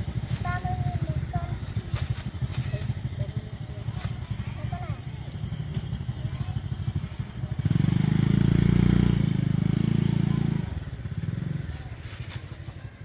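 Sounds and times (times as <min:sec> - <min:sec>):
small motorcycle engine: 0:00.0 - 0:13.0.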